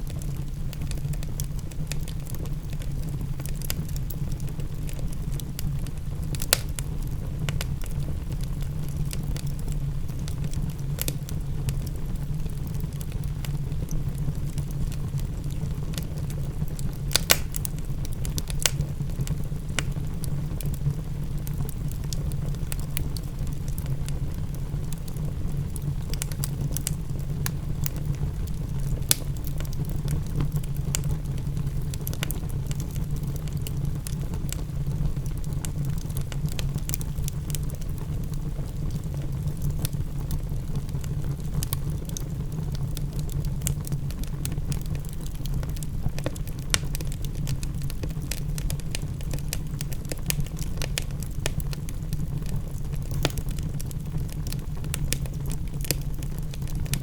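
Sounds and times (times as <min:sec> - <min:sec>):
fire low rumble: 0:00.0 - 0:57.0
wood fire crackling: 0:00.0 - 0:57.0.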